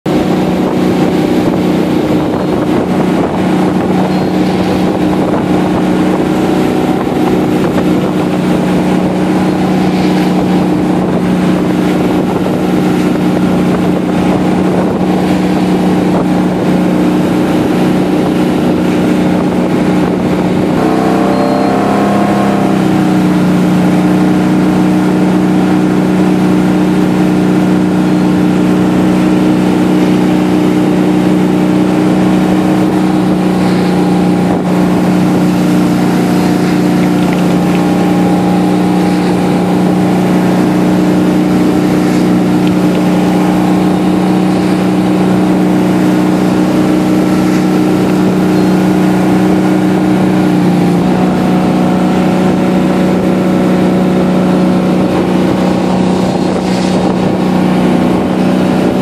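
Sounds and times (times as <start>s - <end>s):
boat engine running: 0.0s - 59.0s
water rushing: 0.0s - 59.0s.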